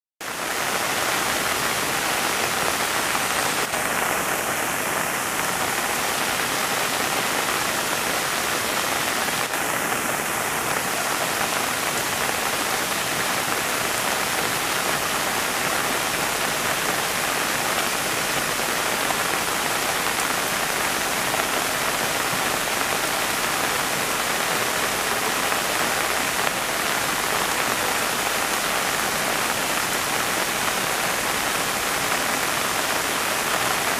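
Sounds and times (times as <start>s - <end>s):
heavy rain on foliage: 0.2s - 33.9s.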